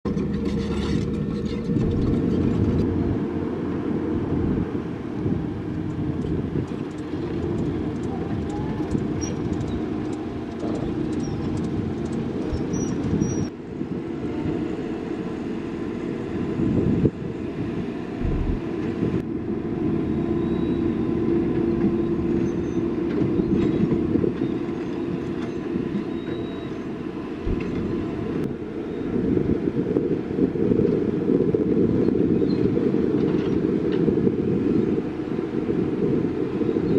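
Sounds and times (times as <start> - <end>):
diesel machinery rumbling: 0.0 - 36.9.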